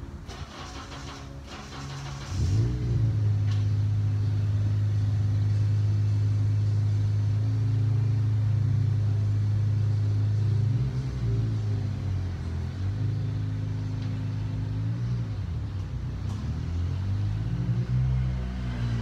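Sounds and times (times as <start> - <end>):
car engine running: 0.0 - 16.3.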